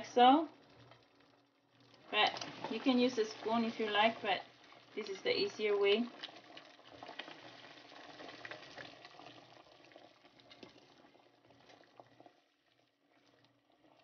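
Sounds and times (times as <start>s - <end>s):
water boiling in a pot: 0.0s - 14.0s.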